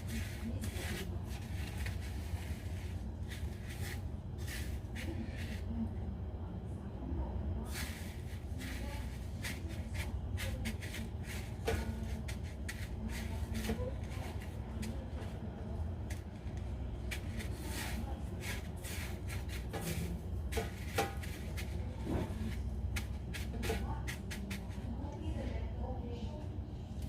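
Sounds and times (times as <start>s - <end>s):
breadcrumbs rustling and crackling: 0.0s - 5.9s, 7.6s - 25.0s
steady low hum: 0.0s - 27.0s.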